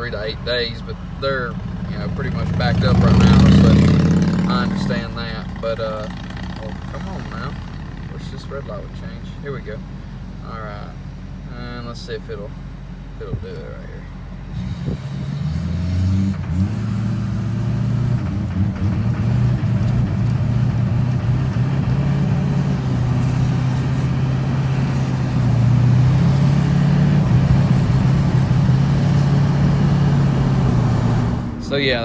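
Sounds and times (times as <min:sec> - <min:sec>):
diesel engine accelerating: 0:00.0 - 0:12.0, 0:14.1 - 0:32.0.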